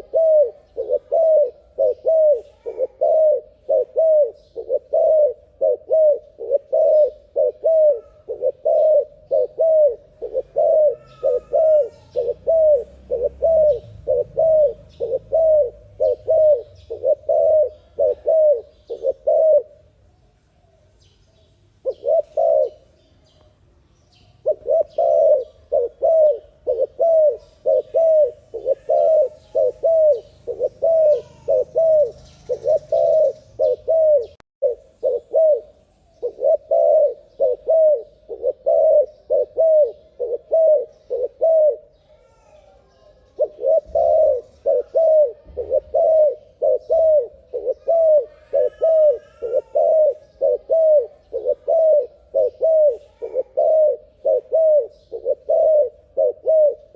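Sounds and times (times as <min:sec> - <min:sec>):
dove cooing: 0:00.0 - 0:19.9, 0:21.8 - 0:23.0, 0:24.4 - 0:56.9.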